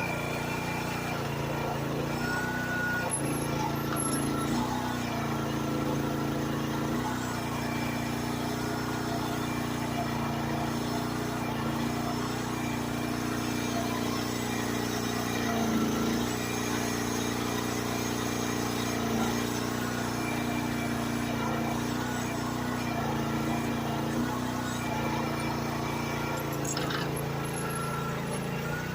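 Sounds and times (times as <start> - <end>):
small excavator engine running: 0.0 - 28.9.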